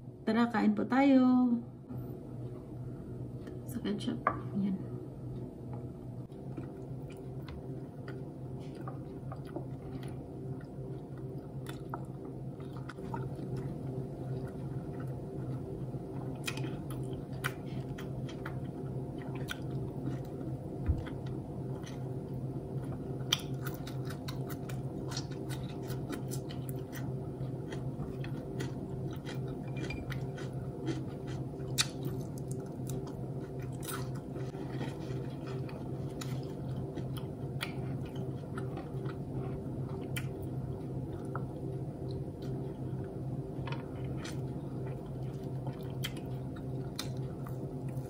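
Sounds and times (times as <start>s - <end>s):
steady low hum: 0.0s - 48.0s
person chewing wetly: 6.3s - 48.0s.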